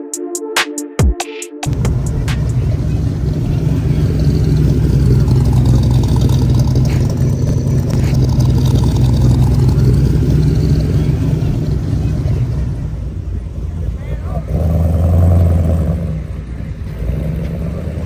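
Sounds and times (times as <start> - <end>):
car engine running: 1.7 - 18.0.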